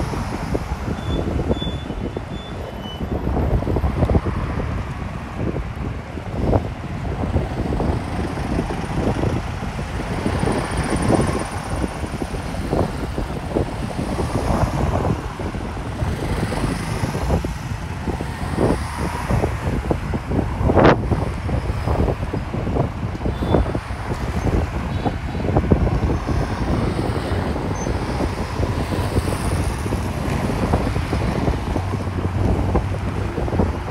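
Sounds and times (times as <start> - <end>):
cars and scooters driving past: 0.0 - 33.9
wind buffeting microphone: 0.0 - 33.9.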